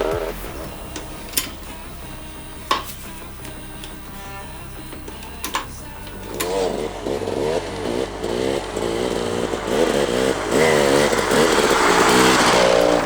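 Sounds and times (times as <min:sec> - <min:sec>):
song with wavering melody: 0:00.0 - 0:13.0.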